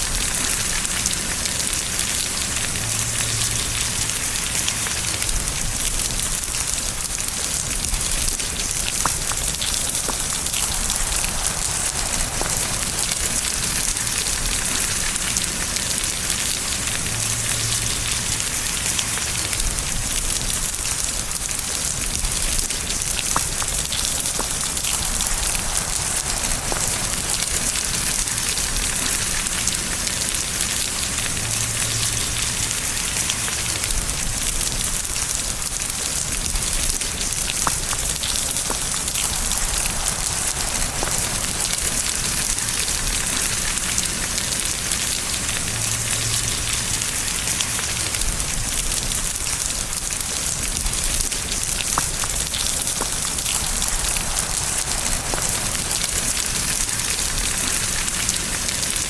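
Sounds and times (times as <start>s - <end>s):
raindrops ticking: 0.0s - 59.0s
steady rain falling: 0.0s - 59.0s.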